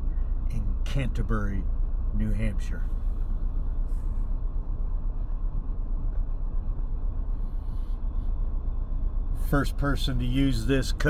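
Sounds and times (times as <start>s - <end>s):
engine rumble inside vehicle cab: 0.0s - 11.0s.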